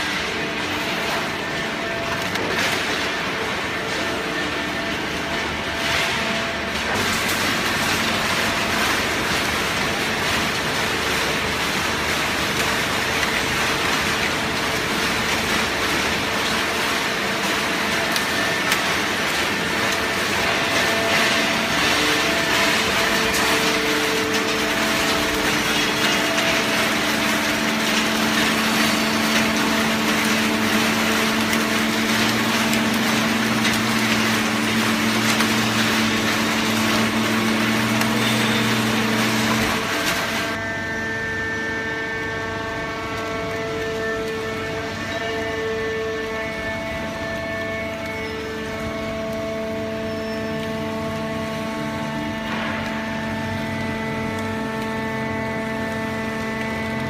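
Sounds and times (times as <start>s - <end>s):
hydraulic unit humming: 0.0s - 57.0s.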